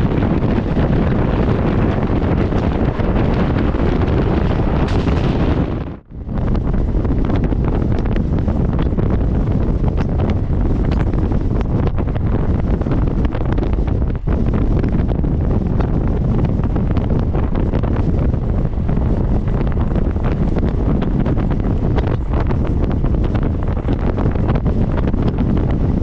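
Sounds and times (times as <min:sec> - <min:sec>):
electric train running rumble: 0:00.0 - 0:26.0
wind buffeting microphone: 0:00.0 - 0:26.0.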